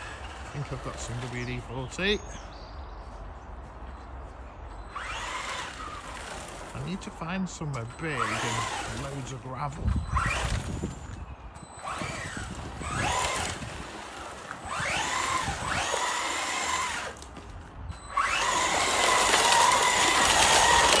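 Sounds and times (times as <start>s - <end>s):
rc car motor whining: 0.0s - 2.0s, 4.8s - 7.1s, 7.8s - 21.0s.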